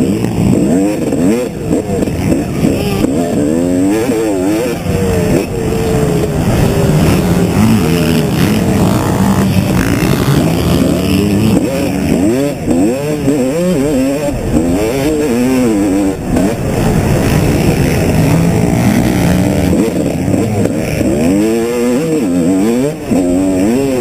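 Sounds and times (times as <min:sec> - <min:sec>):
motocross bike engine revving: 0:00.0 - 0:24.0
rushing wind: 0:00.0 - 0:24.0.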